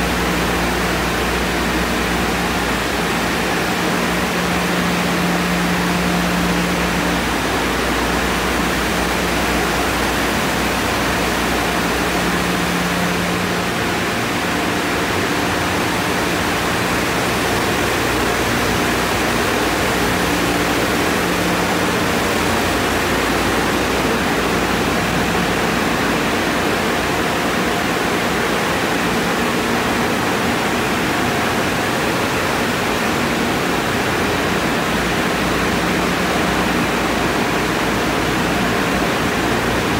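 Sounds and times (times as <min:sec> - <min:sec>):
dryer blowers rushing air: 0:00.0 - 0:39.9.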